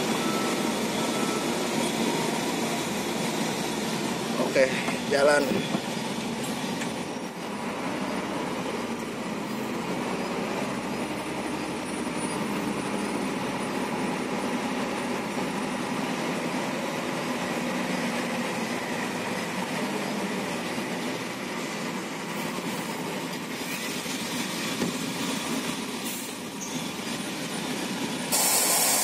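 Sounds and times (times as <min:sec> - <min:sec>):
road and cab noise: 0:00.0 - 0:29.0
truck diesel engine running: 0:00.0 - 0:29.0.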